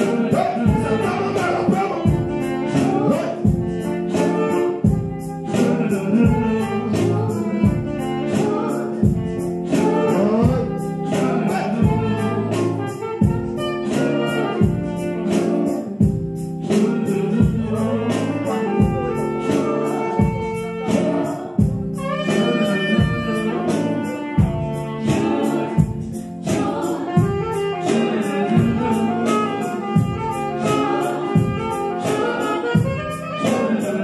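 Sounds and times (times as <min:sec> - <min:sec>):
band playing gospel music: 0:00.0 - 0:34.0
people singing: 0:00.0 - 0:34.0.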